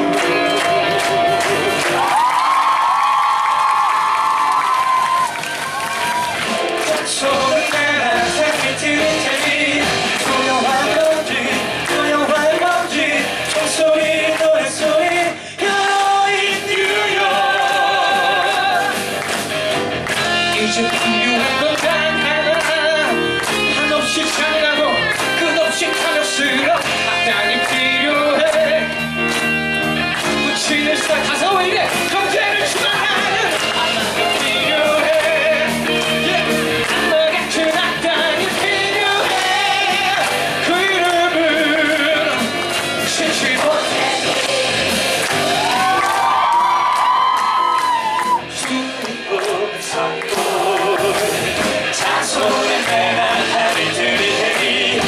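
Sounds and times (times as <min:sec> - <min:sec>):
band accompaniment: 0:00.0 - 0:55.0
person singing with vibrato: 0:06.4 - 0:19.2, 0:20.2 - 0:29.4, 0:30.1 - 0:55.0.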